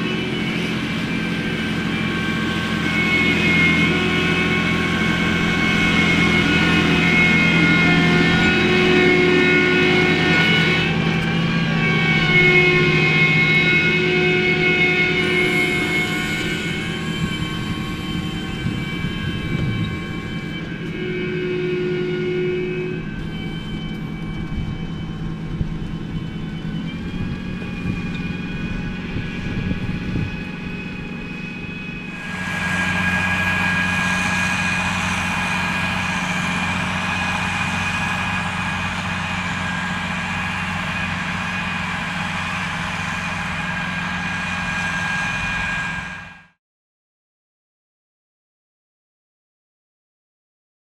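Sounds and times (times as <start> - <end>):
tractor engine under load: 0.0 - 21.1, 23.0 - 46.5
high whining tones: 0.0 - 46.5.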